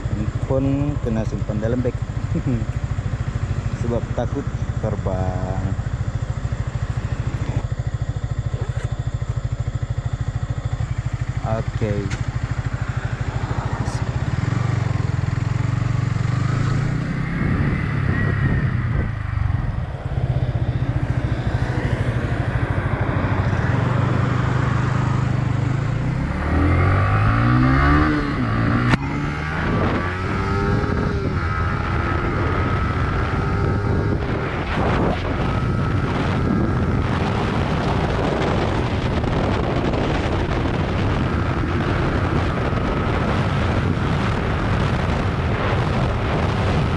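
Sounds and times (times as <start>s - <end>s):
motorcycle engine revving: 0.0s - 46.9s
wind rushing over microphone: 0.0s - 46.9s.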